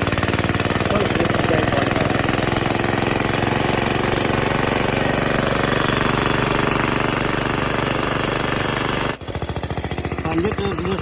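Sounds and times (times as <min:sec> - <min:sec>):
reel mower engine running: 0:00.0 - 0:11.0.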